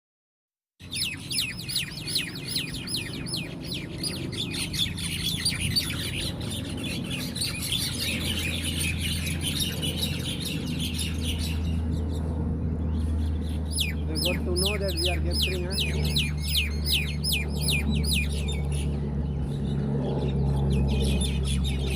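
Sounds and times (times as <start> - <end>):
birds chirping: 0.8 - 21.9
high chatter of many birds: 0.8 - 21.9
steady low hum: 0.8 - 21.9.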